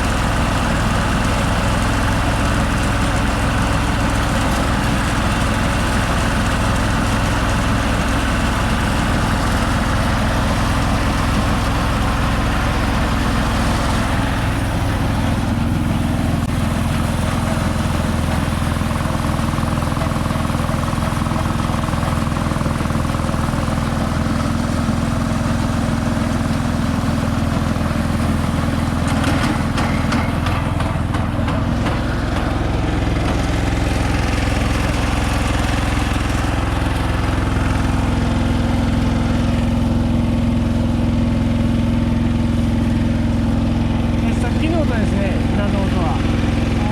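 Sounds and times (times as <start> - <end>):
harvester engine running: 0.0 - 46.9.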